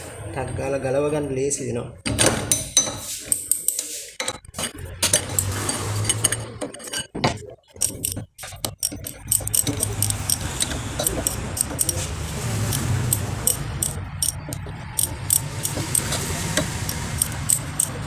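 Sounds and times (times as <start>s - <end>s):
metal spanner clinking on bolts: 2.5s - 12.1s, 12.7s - 18.0s.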